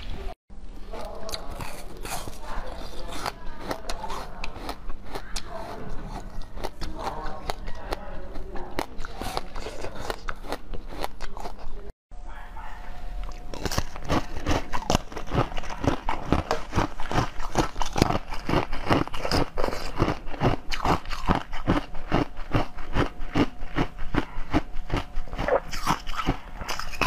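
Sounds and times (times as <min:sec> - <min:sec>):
chewing jelly candy: 0:00.8 - 0:11.9, 0:13.2 - 0:27.0.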